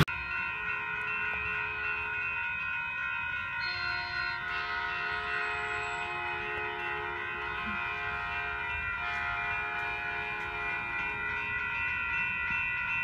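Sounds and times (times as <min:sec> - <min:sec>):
crossing warning bells ringing: 0:00.0 - 0:13.0
train approaching: 0:00.0 - 0:13.0.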